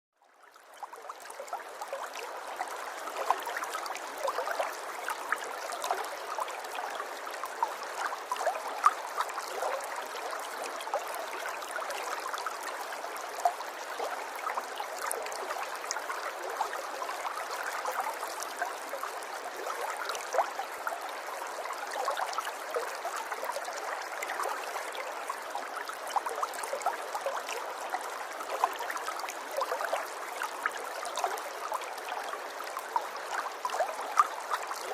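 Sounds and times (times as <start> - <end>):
river water babbling: 0.2 - 34.9.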